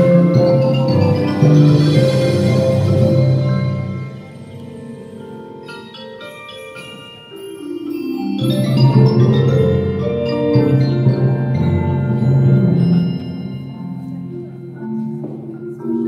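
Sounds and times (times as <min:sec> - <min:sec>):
marimba played with mallets: 0:00.0 - 0:16.0.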